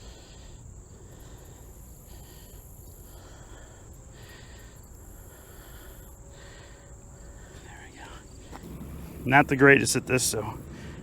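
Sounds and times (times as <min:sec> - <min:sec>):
insect calls: 0:00.0 - 0:11.0
insects trilling: 0:00.0 - 0:11.0.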